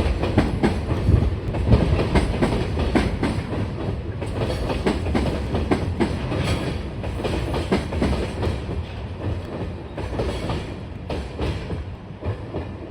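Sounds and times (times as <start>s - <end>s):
freight train rumble: 0.0s - 12.9s.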